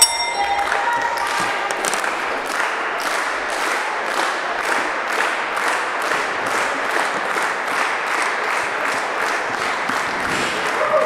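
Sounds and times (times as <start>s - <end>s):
crowd clapping in unison: 0.0s - 11.0s
din of applause: 0.0s - 11.0s.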